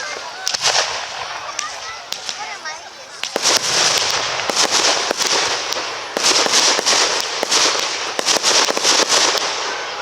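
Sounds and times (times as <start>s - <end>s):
fireworks hiss: 0.0s - 10.0s
fireworks popping and crackling: 0.0s - 10.0s.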